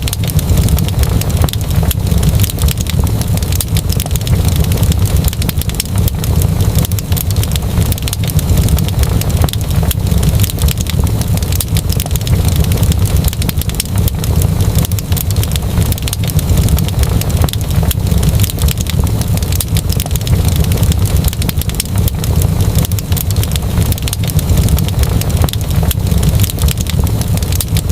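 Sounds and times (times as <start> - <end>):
fireplace fire crackling: 0.0 - 27.9.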